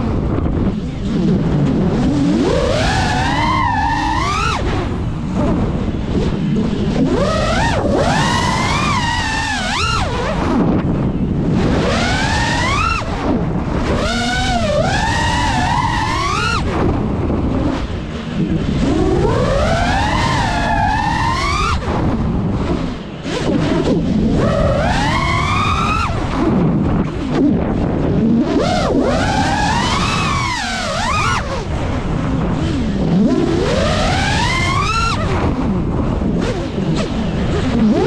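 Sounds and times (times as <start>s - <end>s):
drone motors whining: 0.0s - 38.0s
wind rumble: 0.0s - 38.0s.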